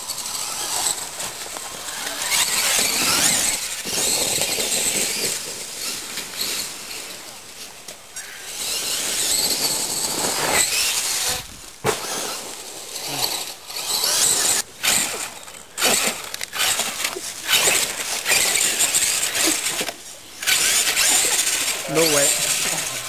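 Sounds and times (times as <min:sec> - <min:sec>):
toy truck motor whining: 0:00.0 - 0:07.0, 0:08.2 - 0:23.0.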